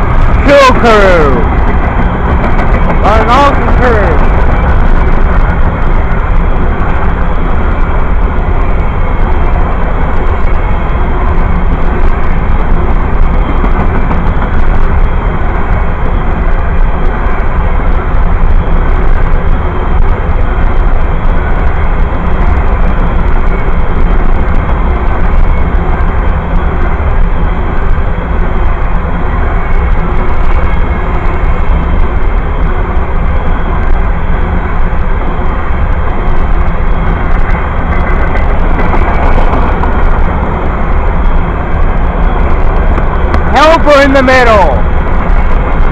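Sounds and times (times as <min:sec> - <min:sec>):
freight train rumbling on rails: 0:00.0 - 0:45.9.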